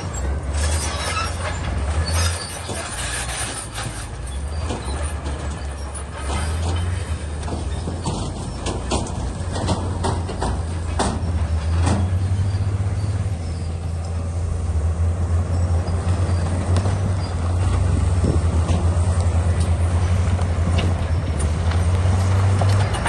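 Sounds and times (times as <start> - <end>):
bulldozer diesel engine rumbling: 0.0 - 23.0.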